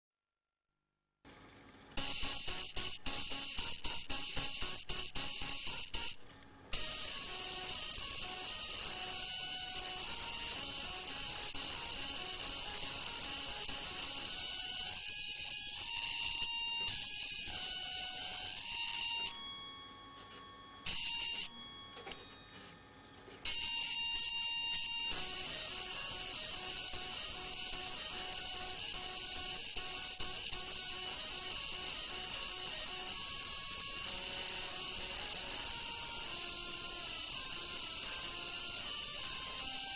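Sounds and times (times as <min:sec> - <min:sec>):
buzzy arc lamp melody: 0:02.0 - 0:39.9.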